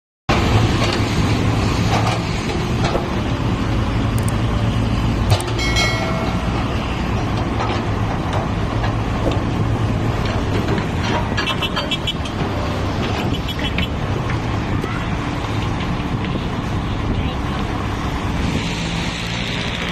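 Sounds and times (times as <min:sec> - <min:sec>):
diesel engine running: 0:00.3 - 0:19.9.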